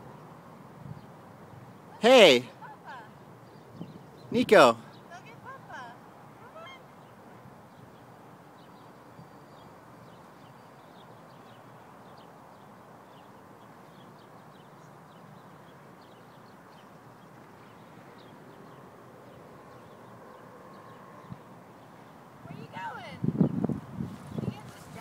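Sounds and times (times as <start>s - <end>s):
outdoor background noise: 0.0s - 25.0s
small birds chirping: 0.1s - 25.0s.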